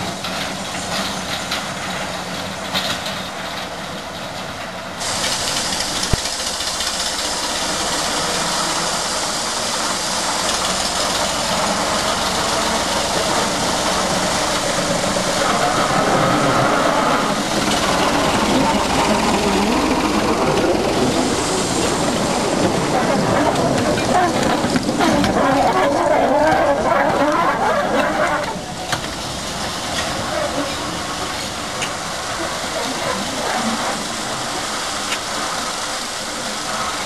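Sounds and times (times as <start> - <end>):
diesel locomotive engine running: 0.0 - 37.0
steam hissing: 4.8 - 37.0.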